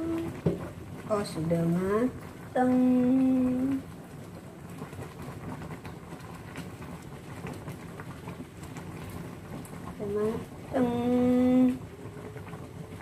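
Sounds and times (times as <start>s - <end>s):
pot bubbling with hiss: 0.0s - 13.0s.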